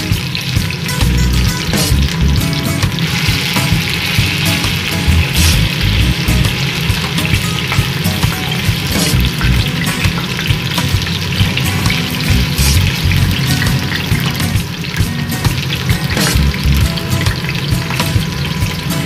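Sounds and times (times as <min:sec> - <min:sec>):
potatoes sizzling in hot oil: 0:00.0 - 0:19.0.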